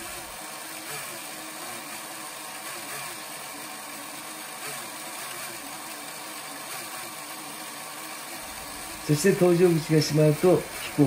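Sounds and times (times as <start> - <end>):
toy electric motor whirring: 0.0 - 11.0.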